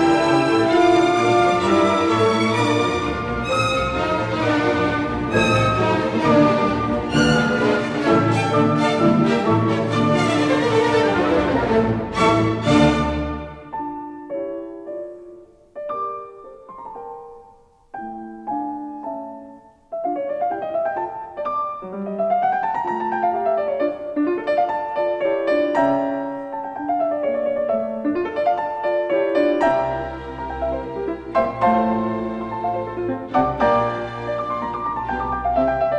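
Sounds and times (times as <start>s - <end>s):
slow classical piano piece: 0.0s - 35.9s.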